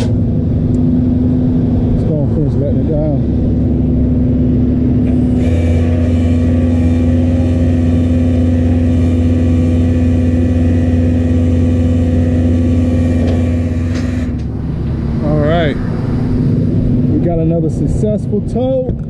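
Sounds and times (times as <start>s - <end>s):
hydraulic hum and whine: 0.0s - 19.0s
tow truck engine running: 0.0s - 19.0s.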